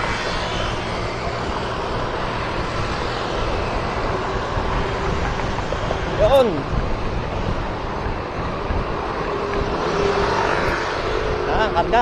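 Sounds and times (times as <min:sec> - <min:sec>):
traffic and road noise: 0:00.0 - 0:12.0
wind rumbling on microphone: 0:00.0 - 0:12.0.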